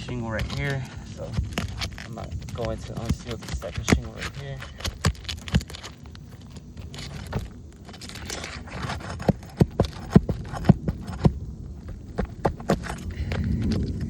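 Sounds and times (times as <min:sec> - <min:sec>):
metal tool scraping shingles: 0:00.0 - 0:13.3
sharp clicks and knocks: 0:00.0 - 0:13.9.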